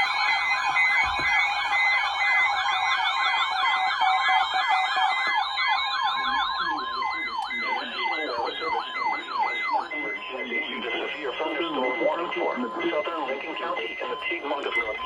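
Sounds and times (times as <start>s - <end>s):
electronic siren yelp: 0.0s - 15.0s
higher sweeping siren tone: 0.0s - 15.0s
rapidly repeating beep: 0.0s - 15.0s
steady siren tone: 0.0s - 15.0s.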